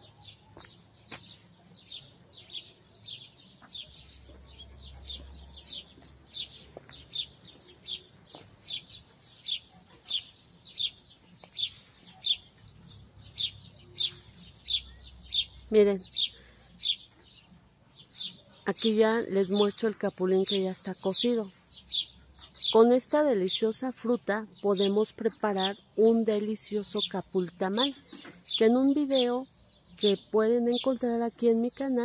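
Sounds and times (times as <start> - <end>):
small bird chirping: 0.0 - 32.0.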